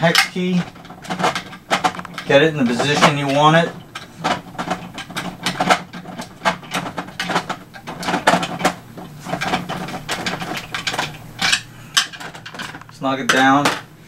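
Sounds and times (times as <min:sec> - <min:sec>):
plastic clicks and knocks: 0:00.0 - 0:13.9.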